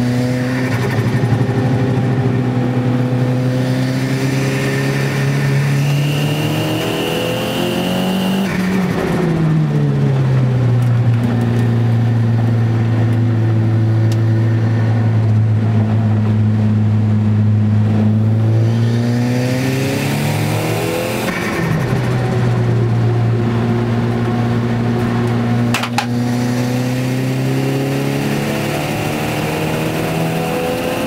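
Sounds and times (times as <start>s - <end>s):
car engine from inside cabin: 0.0s - 31.0s.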